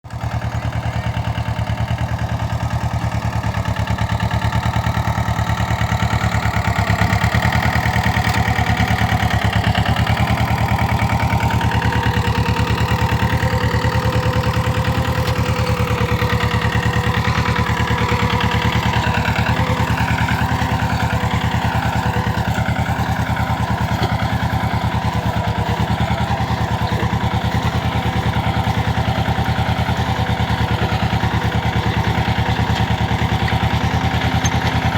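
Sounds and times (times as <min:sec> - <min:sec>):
tractor diesel engine chugging: 0:00.0 - 0:34.9.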